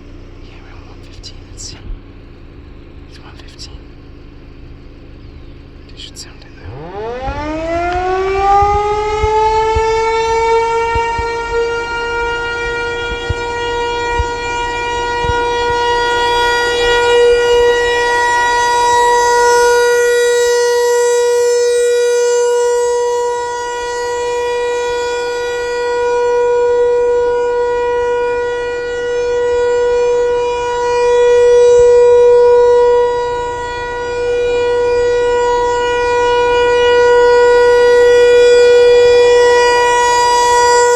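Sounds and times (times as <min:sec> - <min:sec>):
outdoor warning siren: 0:00.0 - 0:40.9.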